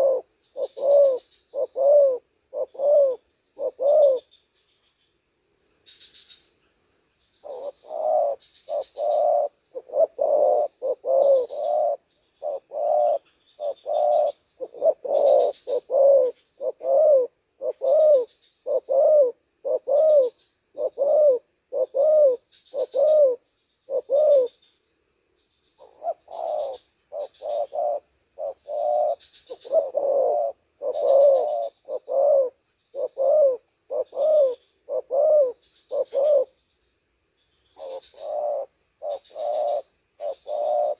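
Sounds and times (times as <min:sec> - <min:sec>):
doves cooing: 0:00.0 - 0:04.4, 0:07.4 - 0:24.6, 0:25.8 - 0:36.6, 0:37.8 - 0:40.9.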